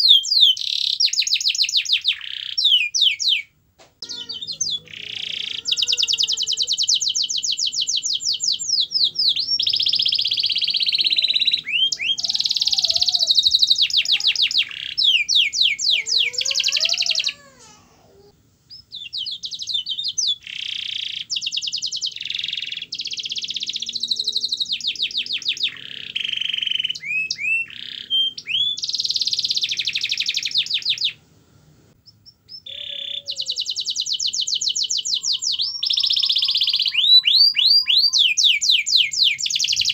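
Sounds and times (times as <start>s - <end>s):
canary singing trills: 0.0s - 31.2s, 32.0s - 39.9s.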